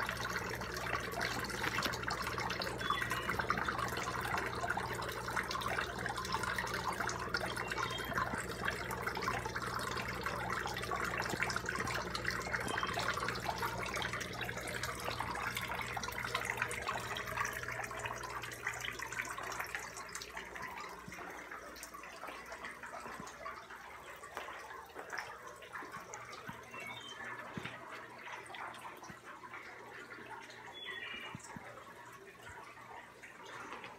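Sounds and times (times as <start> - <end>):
water splashing and trickling: 0.0 - 33.9.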